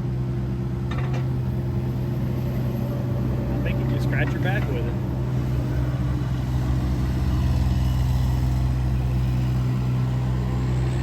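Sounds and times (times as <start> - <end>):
excavator diesel engine drone: 0.0 - 11.0.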